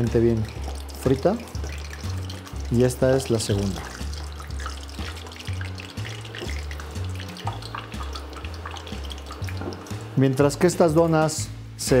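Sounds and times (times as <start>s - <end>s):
doughnut sizzling in hot oil: 0.0s - 11.8s
background music with bass: 0.0s - 12.0s.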